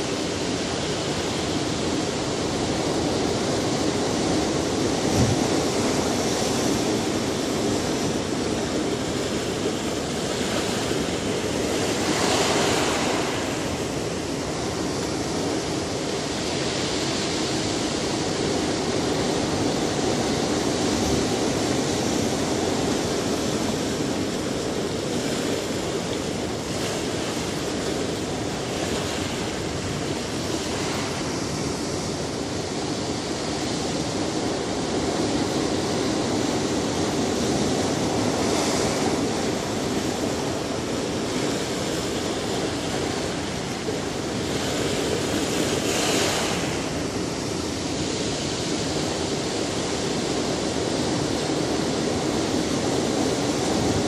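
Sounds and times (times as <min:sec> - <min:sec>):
ocean surf breaking on rocks: 0:00.0 - 0:54.0.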